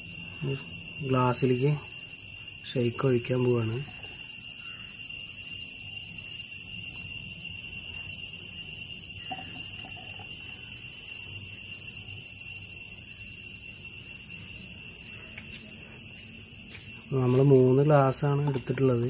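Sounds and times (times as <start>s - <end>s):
steady high-pitched tone: 0.0s - 19.0s.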